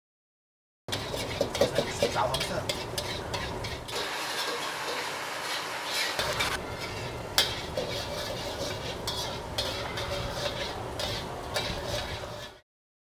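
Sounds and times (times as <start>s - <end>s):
light sizzle: 0.9s - 12.6s
metal spatula scraping a wok: 0.9s - 12.6s
spatula clacking on wok: 0.9s - 12.6s.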